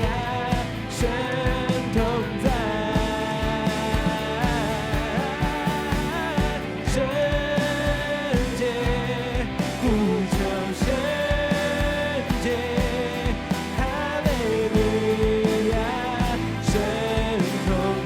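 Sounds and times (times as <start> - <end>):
worship band with drum beat: 0.0 - 18.0.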